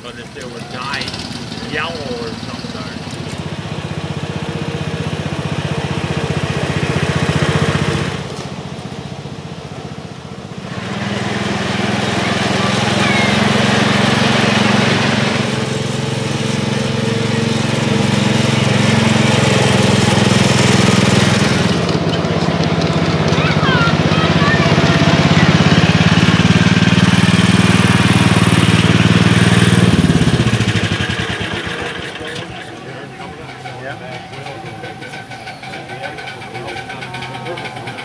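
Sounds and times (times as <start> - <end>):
small locomotive engine running: 0.0 - 38.0.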